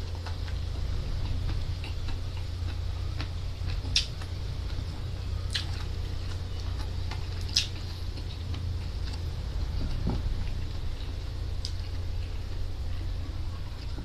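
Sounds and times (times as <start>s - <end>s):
person chewing wetly: 0.0s - 14.0s
steady low hum: 0.0s - 14.0s.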